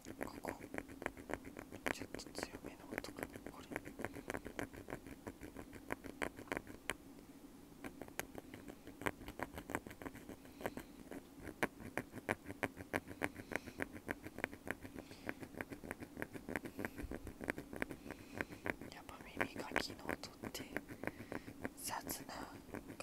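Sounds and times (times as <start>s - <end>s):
ear pick scratching: 0.0s - 7.0s, 7.8s - 23.0s.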